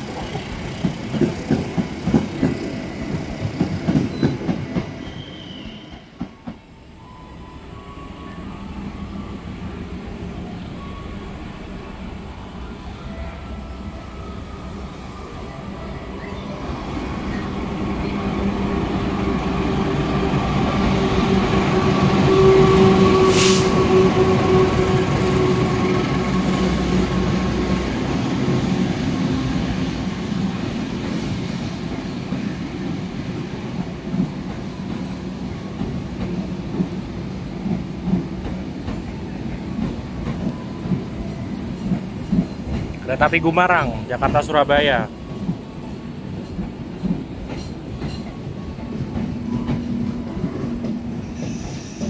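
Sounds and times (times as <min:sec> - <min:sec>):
train running past: 0:00.0 - 0:52.0.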